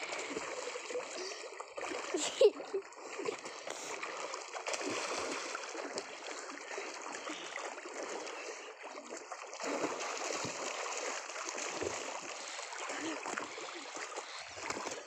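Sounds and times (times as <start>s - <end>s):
small water splashes: 0.0s - 15.0s
water sloshing in a well: 0.0s - 15.0s.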